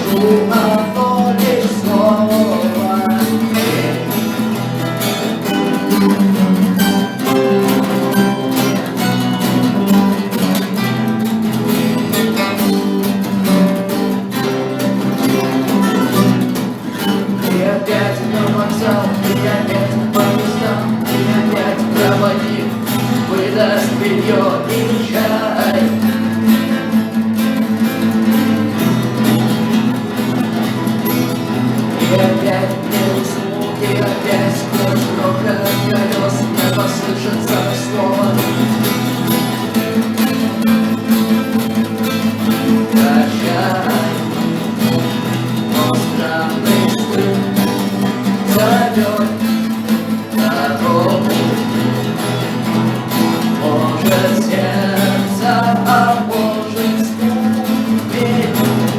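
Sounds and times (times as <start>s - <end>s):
strummed rock guitar: 0.0s - 58.9s.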